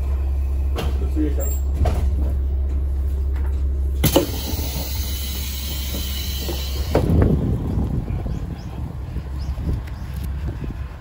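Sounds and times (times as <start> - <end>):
diesel railcar engine idling: 0.0 - 11.0.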